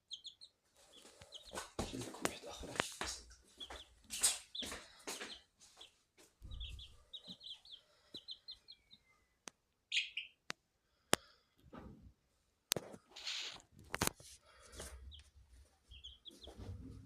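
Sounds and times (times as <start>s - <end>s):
baby chick peeping: 0.0s - 10.6s, 12.8s - 17.0s.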